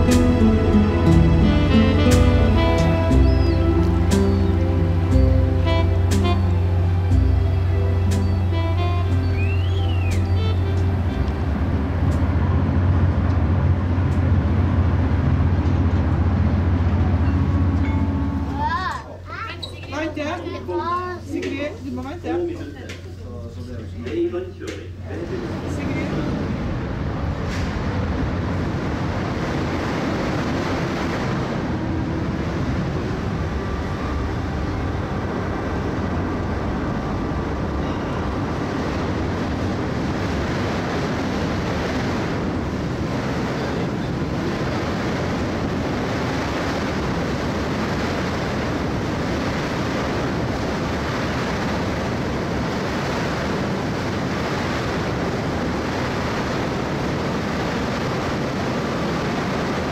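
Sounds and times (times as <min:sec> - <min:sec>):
low engine drone: 0:00.0 - 0:19.3, 0:22.4 - 0:59.9.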